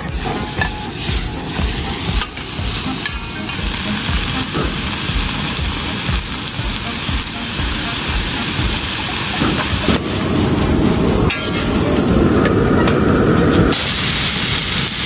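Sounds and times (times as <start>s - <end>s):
meat and peppers sizzling: 0.0s - 15.0s.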